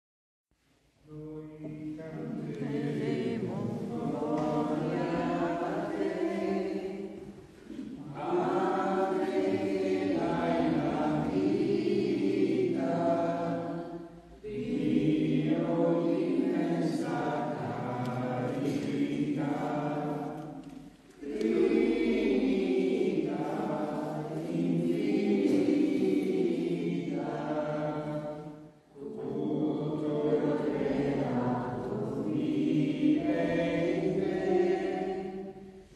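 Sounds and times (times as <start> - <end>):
group singing a hymn: 1.1 - 35.9.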